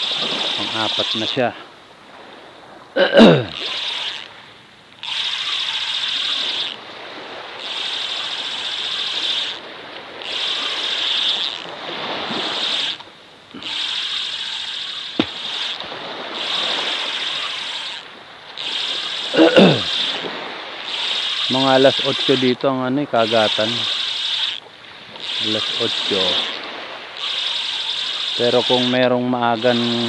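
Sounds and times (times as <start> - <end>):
fishing reel whirring: 0.0 - 1.5, 3.5 - 30.0.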